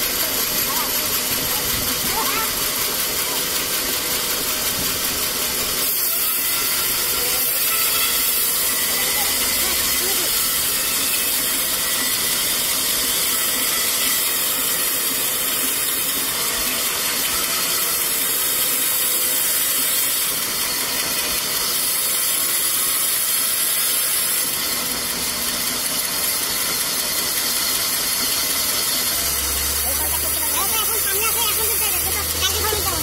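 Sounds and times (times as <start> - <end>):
band saw cutting wood: 0.0 - 33.0.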